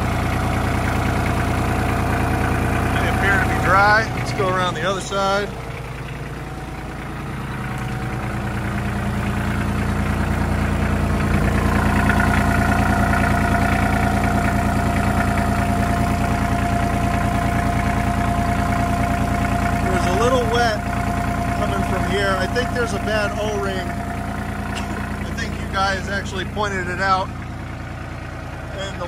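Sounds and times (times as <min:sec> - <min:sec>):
tractor diesel engine idling: 0:00.0 - 0:29.0.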